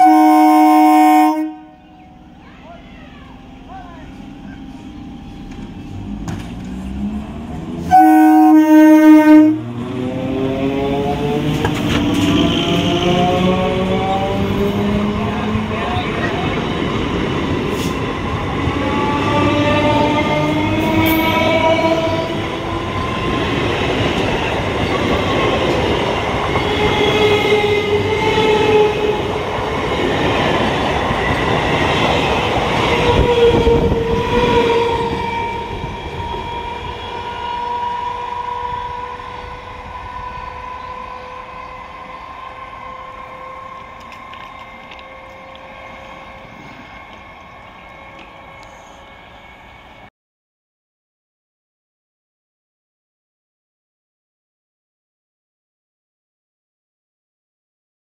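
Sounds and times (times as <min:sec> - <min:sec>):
train wheels rumbling on track: 0:00.0 - 0:50.1
train whining tones: 0:00.0 - 0:50.1.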